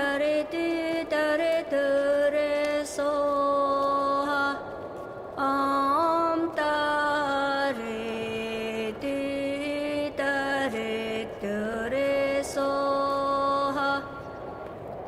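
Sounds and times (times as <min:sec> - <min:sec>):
person chanting mantra: 0:00.0 - 0:14.6.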